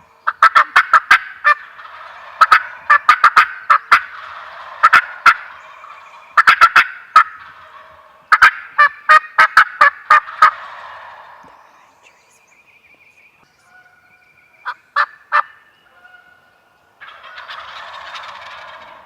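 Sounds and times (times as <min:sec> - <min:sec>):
turkeys gobbling: 0:00.0 - 0:12.0, 0:13.6 - 0:19.0.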